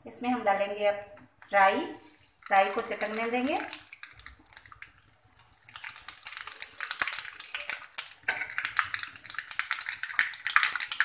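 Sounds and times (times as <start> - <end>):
seeds sizzling and popping in oil: 2.0 - 11.0.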